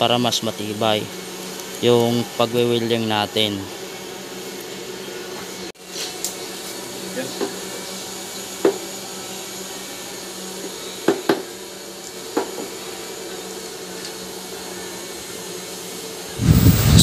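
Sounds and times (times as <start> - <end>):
steady motor drone: 0.0 - 17.0.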